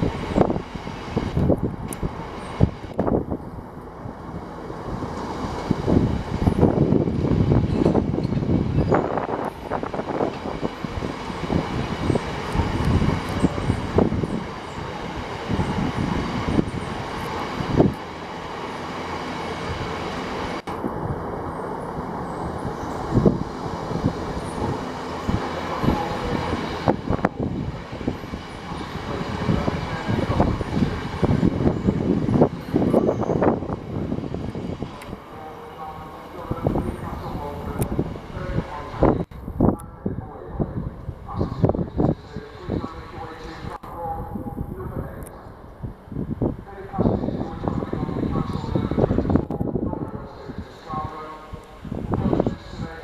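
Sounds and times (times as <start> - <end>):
train rolling past: 0.0 - 53.0.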